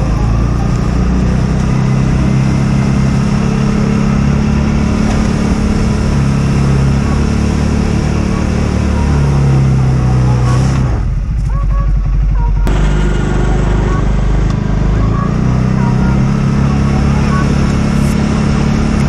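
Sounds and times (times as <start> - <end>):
atv engine running under load: 0.0 - 19.0
plow blade pushing snow: 0.0 - 19.0.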